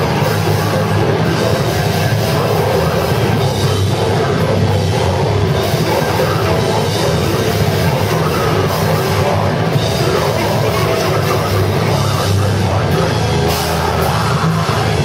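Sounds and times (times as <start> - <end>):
heavy metal band playing: 0.0 - 15.0.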